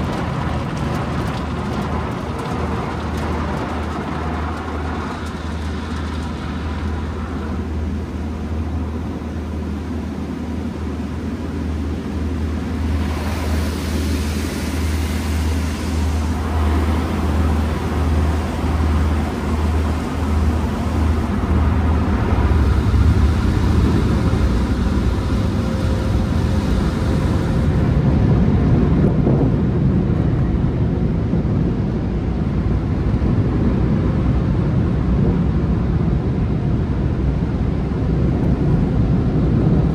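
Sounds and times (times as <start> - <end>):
car wash machinery hum: 0.0 - 39.9
low rumble: 0.0 - 39.9.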